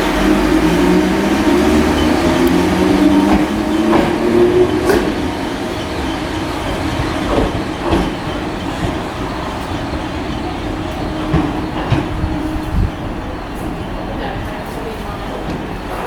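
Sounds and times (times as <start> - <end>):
wheels clicking over rail joints: 0.0 - 13.0
train motor hum: 0.0 - 16.0
train rumble: 0.0 - 16.0.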